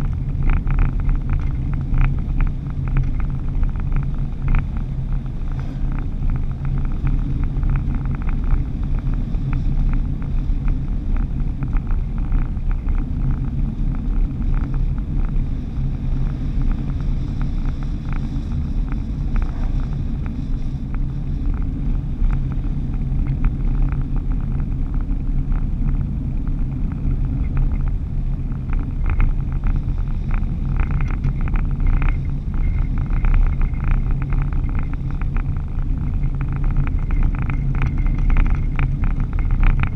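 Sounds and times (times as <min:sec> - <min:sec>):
engine and road rumble: 0:00.0 - 0:39.9
small clicks and rattles: 0:00.0 - 0:39.9.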